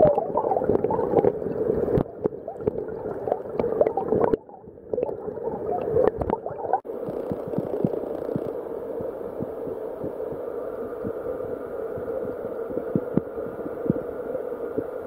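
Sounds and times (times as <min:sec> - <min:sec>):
muffled underwater water rush: 0:00.0 - 0:15.0.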